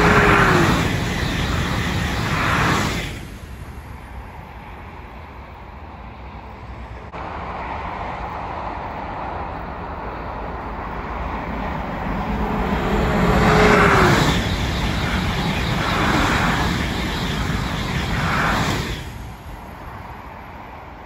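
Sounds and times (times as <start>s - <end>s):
high-speed train passing: 0.0s - 21.0s.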